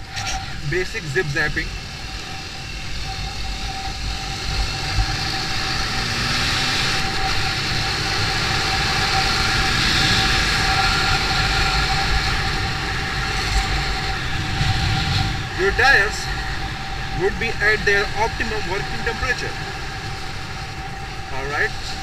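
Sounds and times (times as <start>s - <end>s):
motorcycle engine and road noise: 0.0s - 22.0s.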